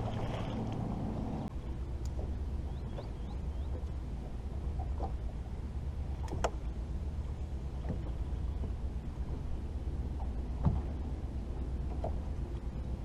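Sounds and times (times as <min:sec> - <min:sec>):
boat low rumble: 0:00.0 - 0:13.0.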